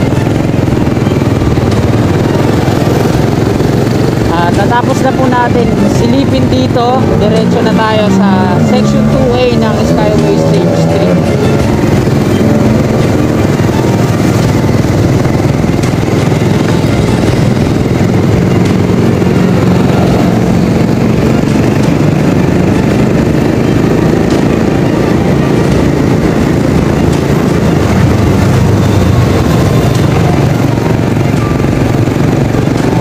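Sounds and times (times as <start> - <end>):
vehicle engine and road noise: 0.0 - 33.0.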